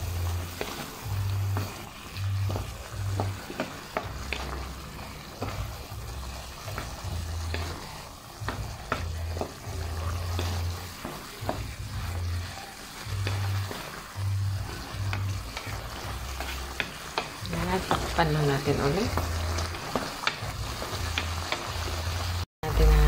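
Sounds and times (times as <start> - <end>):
wooden spatula scraping a pan: 0.0 - 22.4
sauce sizzling in a pan: 0.0 - 23.0.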